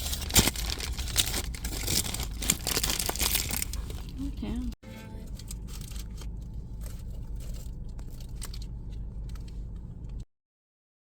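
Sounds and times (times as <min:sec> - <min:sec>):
steady low rumble: 0:00.1 - 0:10.2.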